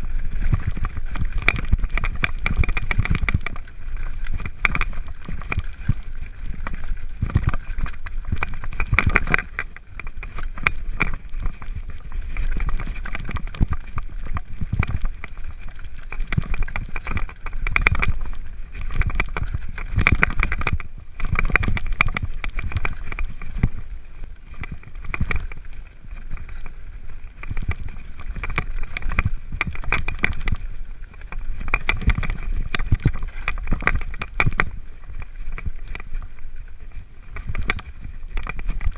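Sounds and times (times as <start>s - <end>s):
bike rattling over stones: 0.0s - 38.9s.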